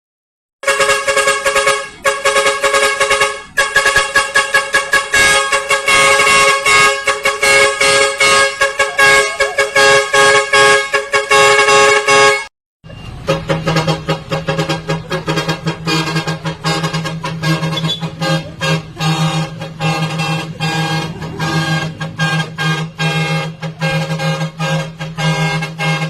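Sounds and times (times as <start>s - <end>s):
truck air horns honking: 0.6s - 26.0s.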